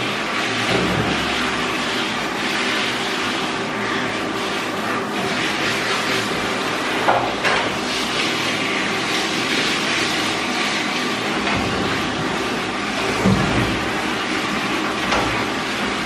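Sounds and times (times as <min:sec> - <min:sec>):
shower sprayer running: 0:00.0 - 0:16.0.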